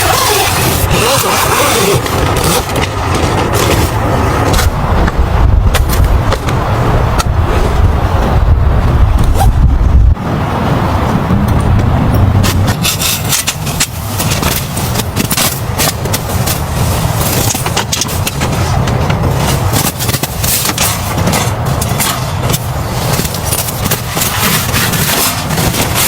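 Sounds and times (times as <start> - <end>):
low rumble of car: 0.0 - 26.0.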